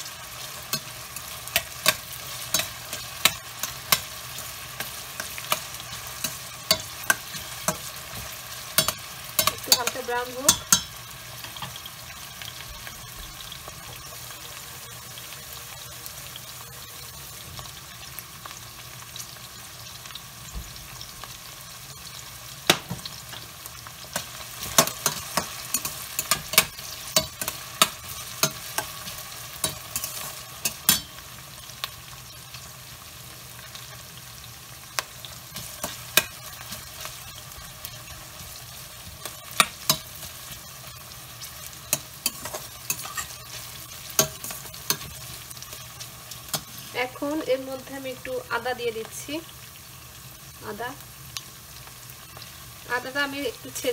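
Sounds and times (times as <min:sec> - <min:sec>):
onions sizzling in a pot: 0:00.0 - 0:53.9.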